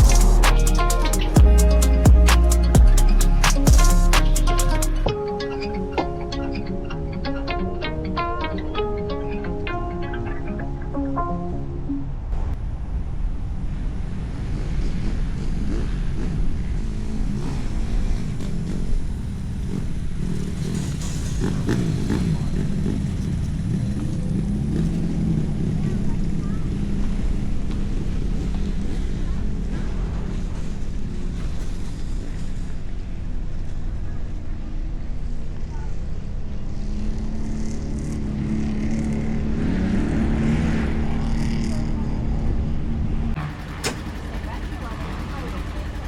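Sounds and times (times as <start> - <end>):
vehicle engine droning: 0.0 - 5.2, 12.3 - 46.0
road and tyre rumble: 0.0 - 46.0.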